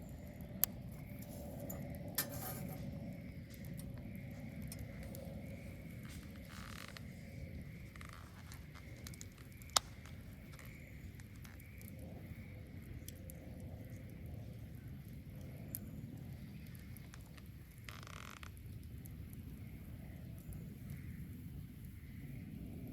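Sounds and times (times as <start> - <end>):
fire crackling and popping: 0.0 - 22.9
bonfire flames rushing: 0.2 - 22.9.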